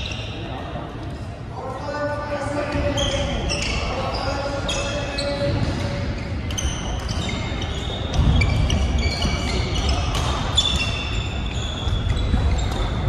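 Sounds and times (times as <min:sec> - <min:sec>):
shoes squeaking on hall floor: 0:00.0 - 0:01.2, 0:01.8 - 0:13.0.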